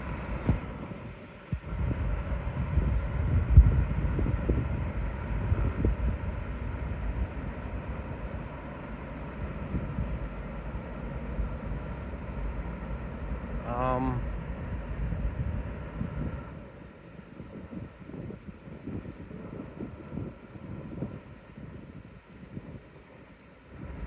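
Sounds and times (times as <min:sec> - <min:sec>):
low rumble: 0:00.0 - 0:21.2
wind buffeting microphone: 0:00.0 - 0:24.0.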